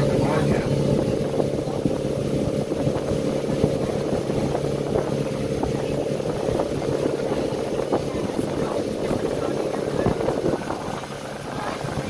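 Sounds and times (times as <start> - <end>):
boat engine humming: 0.0 - 12.0
water slapping against hull: 0.0 - 12.0.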